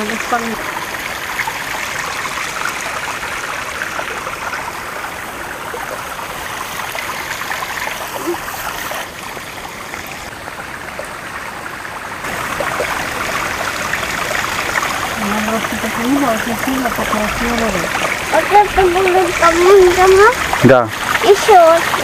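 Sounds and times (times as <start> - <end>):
water trickling in stone channel: 0.0 - 22.0.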